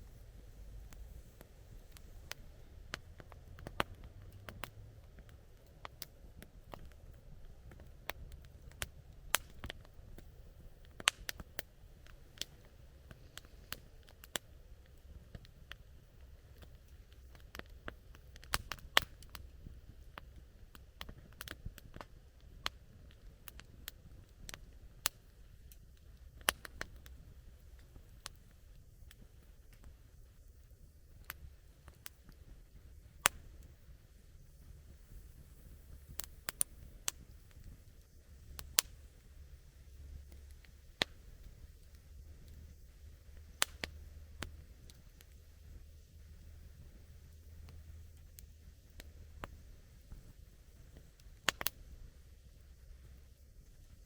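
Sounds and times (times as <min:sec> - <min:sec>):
campfire crackling: 0:00.0 - 0:54.0
low steady rumble: 0:00.0 - 0:54.0.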